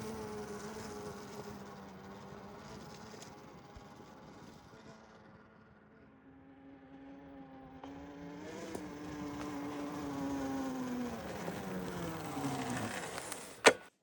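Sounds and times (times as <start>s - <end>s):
motor droning: 0.0s - 13.8s.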